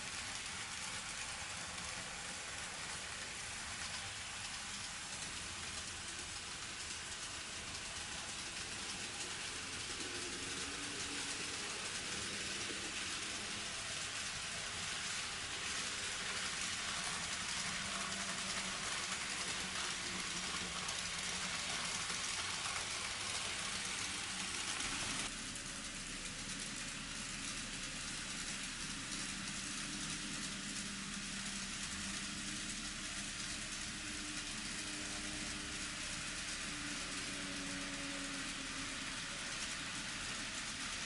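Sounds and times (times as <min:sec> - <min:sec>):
faint motor hum: 0:00.0 - 0:41.0
model train wheels clattering on rail: 0:00.0 - 0:41.0.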